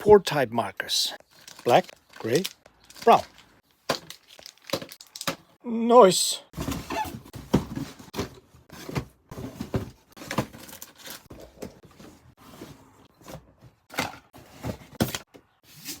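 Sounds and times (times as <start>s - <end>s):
boxes knocking and rustling: 1.2s - 5.6s, 6.5s - 16.0s.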